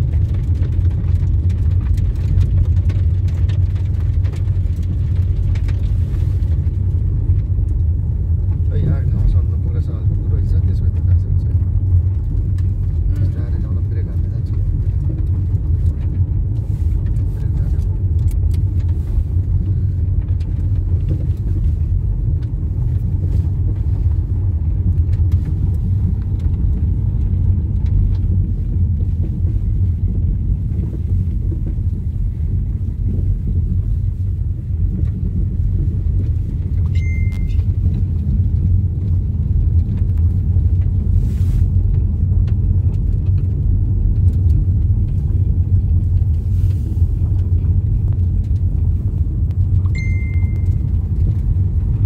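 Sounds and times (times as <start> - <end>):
car driving on gravel road: 0.0 - 52.0.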